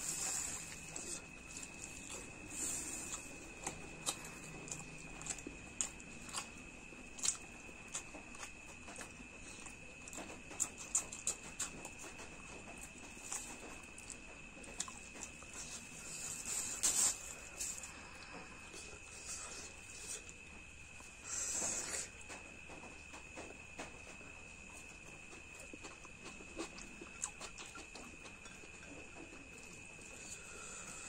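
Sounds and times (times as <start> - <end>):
faint high whine: 0.0 - 31.0
person chewing food: 0.0 - 31.0.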